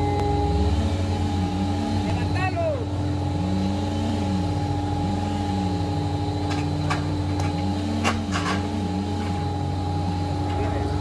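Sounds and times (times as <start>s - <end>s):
machine engines droning: 0.0s - 11.0s.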